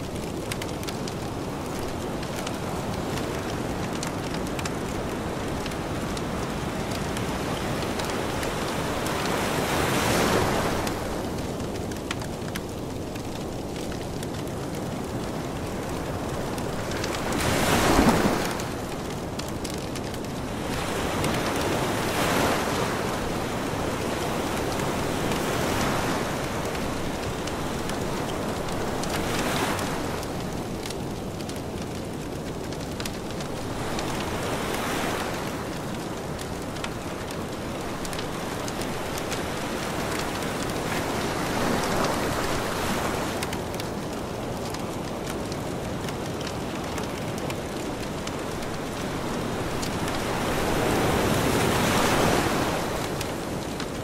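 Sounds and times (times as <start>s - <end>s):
campfire crackling: 0.0s - 54.0s
waves washing onto pebble beach: 0.0s - 54.0s.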